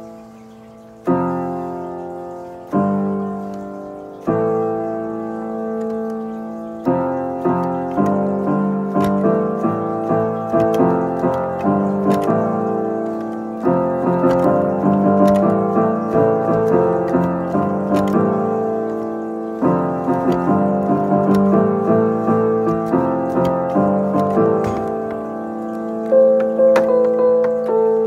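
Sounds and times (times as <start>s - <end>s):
electronic keyboard piano melody: 0.0s - 28.0s.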